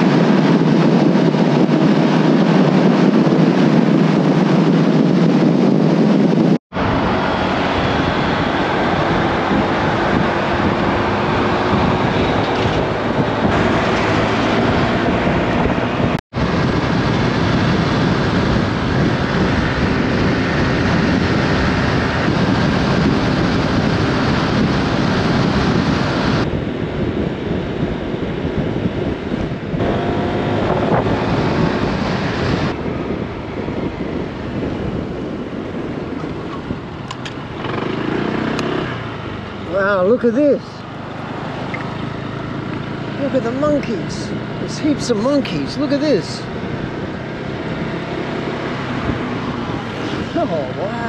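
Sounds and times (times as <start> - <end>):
scooter engine hum: 0.0 - 51.0
wind buffeting microphone: 0.0 - 51.0.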